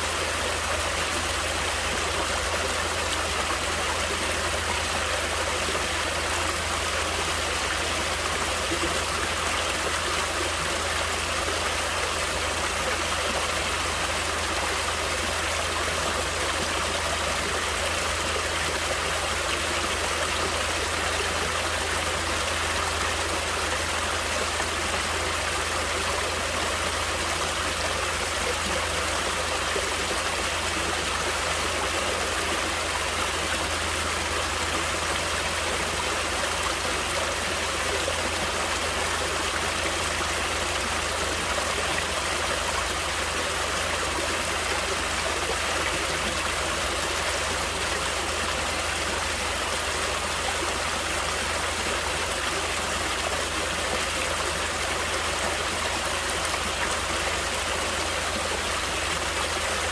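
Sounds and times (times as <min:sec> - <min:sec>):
water rushing steadily: 0:00.0 - 0:59.9.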